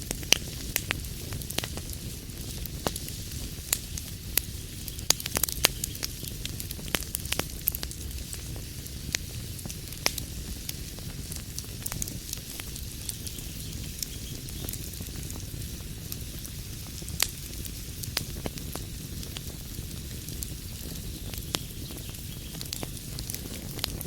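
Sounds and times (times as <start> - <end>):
sharp pops and snaps of fire: 0.0 - 24.0
wood fire crackling: 0.0 - 24.0.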